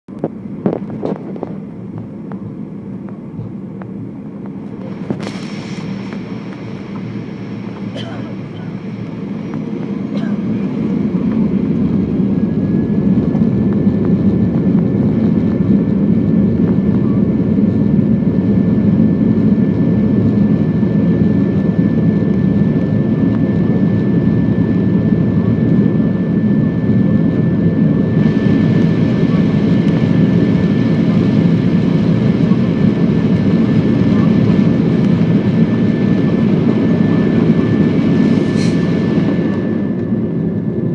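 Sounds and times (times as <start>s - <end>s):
jet engines roaring: 0.1s - 40.9s
thin steady whine: 0.1s - 40.9s.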